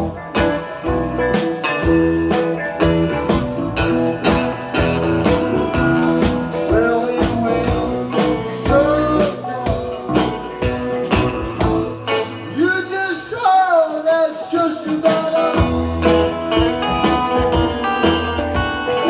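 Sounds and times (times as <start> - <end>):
blues rock band playing: 0.0 - 19.0
steady drum beat: 0.0 - 19.0.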